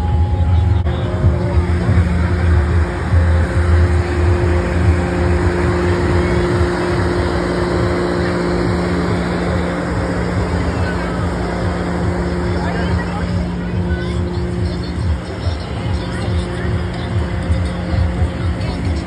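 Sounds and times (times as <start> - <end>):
motor hum with low rumble: 0.0 - 19.0.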